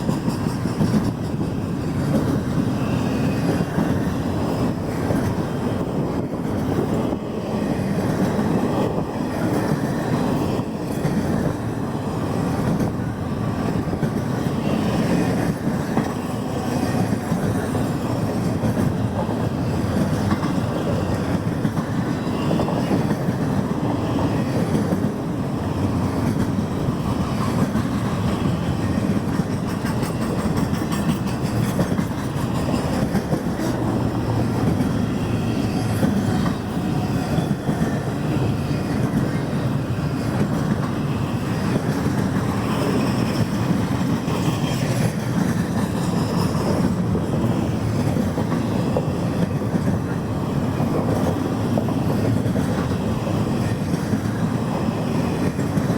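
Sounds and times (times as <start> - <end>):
train wheels rolling on rails: 0.0 - 55.9.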